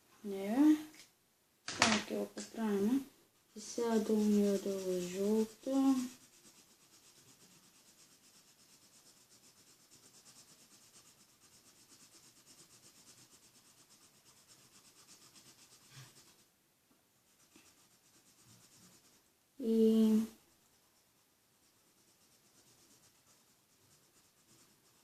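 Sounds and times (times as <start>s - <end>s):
marker strokes on paper: 1.8s - 16.5s, 17.2s - 25.0s.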